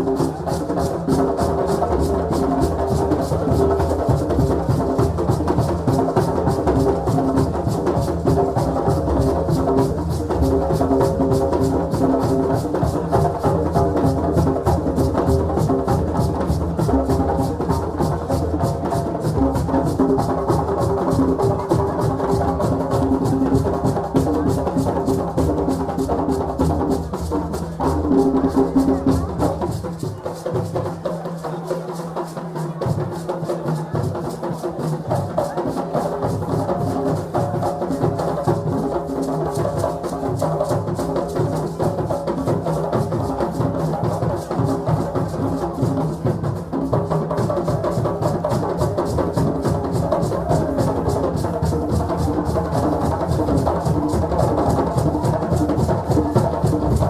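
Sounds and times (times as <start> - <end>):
festive drumming: 0.0 - 57.0.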